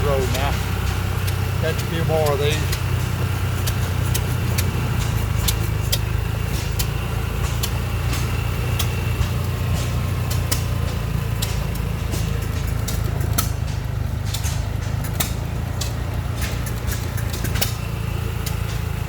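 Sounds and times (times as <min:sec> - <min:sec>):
engines rumbling: 0:00.0 - 0:19.0
sharp clicks: 0:00.0 - 0:19.0.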